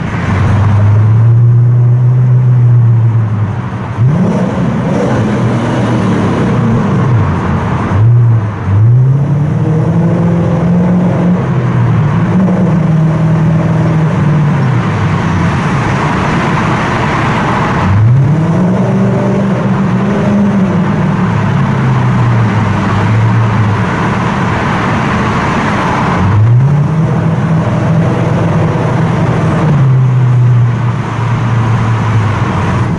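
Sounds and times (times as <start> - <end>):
car exhaust accelerating in a tunnel: 0.0 - 32.9.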